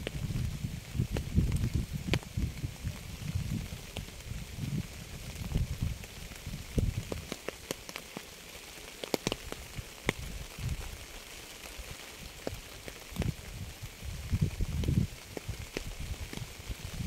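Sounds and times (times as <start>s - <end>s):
rain hissing: 0.0s - 17.0s
raindrops ticking: 0.0s - 17.0s.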